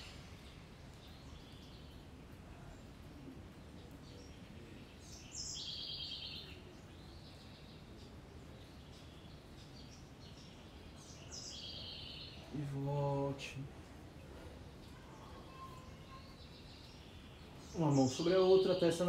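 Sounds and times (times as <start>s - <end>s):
low outdoor background: 0.0s - 19.0s.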